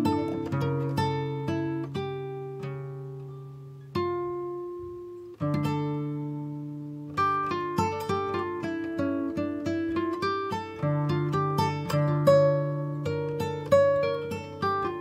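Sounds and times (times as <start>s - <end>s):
acoustic guitar picked and strummed: 0.0s - 15.0s.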